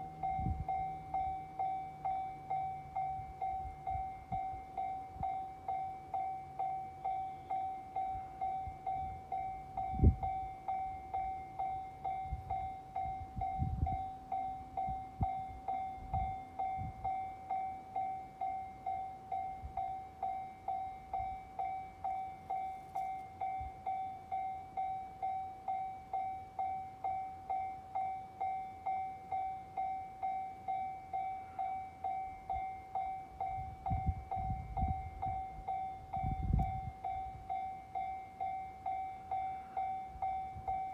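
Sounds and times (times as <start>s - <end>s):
approaching train rumbling: 0.0s - 40.9s
level-crossing warning bell: 0.0s - 40.9s.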